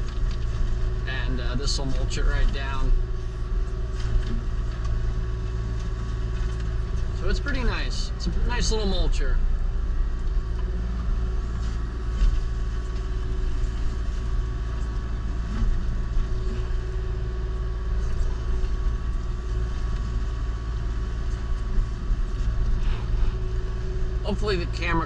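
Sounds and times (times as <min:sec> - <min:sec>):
excavator engine drone: 0:00.0 - 0:25.0.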